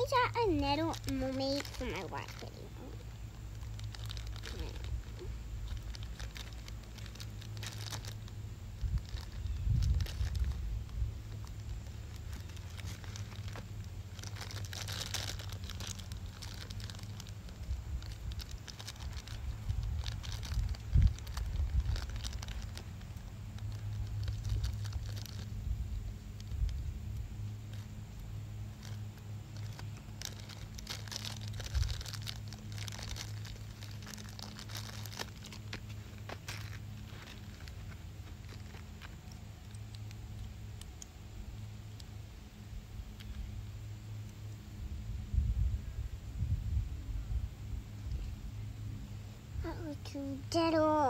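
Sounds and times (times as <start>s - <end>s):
plastic wrapper crinkling: 0.0s - 41.2s
steady low hum: 0.0s - 51.0s.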